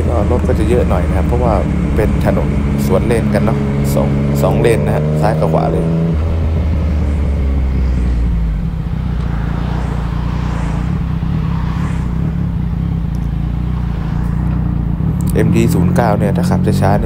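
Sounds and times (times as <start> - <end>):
motorcycle engine with loud exhaust: 0.0 - 17.0.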